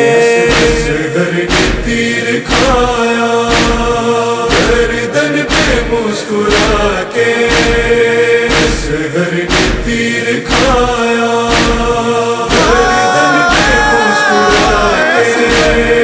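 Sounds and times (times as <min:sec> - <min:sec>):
male voices chanting in chorus: 0:00.0 - 0:16.0
deep thudding beat: 0:00.5 - 0:16.0.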